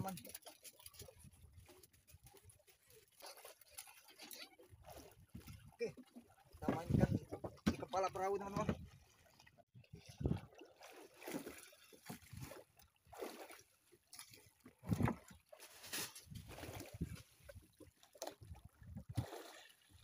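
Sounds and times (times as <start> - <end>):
water slapping against boat hull: 0.0 - 20.0.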